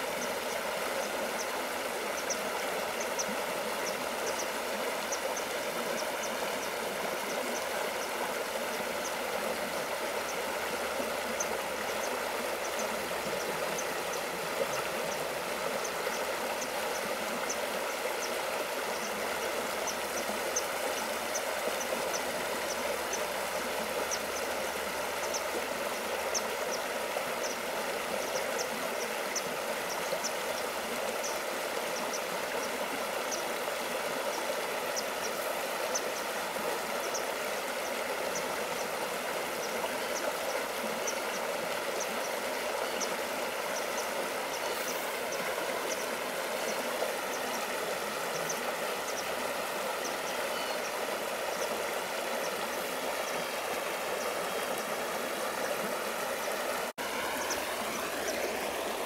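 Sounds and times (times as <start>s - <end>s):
stream water rippling over rocks: 0.0s - 59.0s.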